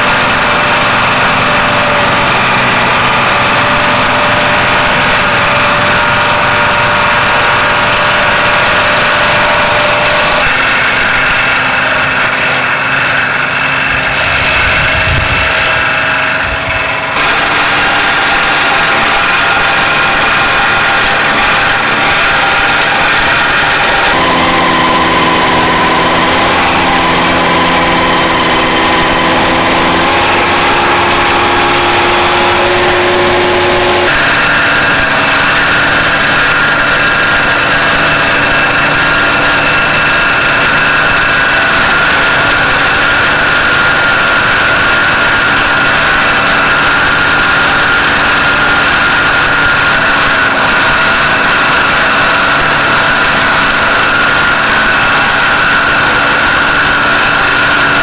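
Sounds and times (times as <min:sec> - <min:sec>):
high whine: 0:00.0 - 0:58.0
plow cutting into ground: 0:00.0 - 0:58.0
tractor engine running under load: 0:00.0 - 0:58.0.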